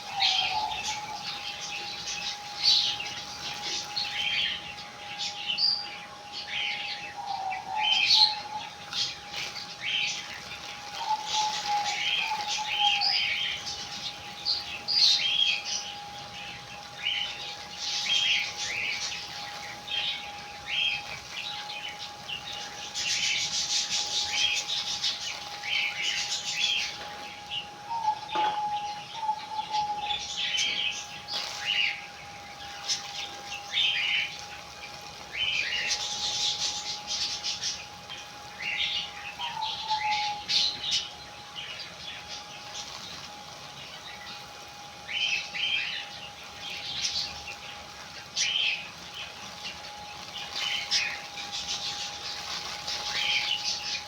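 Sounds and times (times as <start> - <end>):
faint steady whine: 0.0 - 54.0
small birds chirping: 0.0 - 54.0.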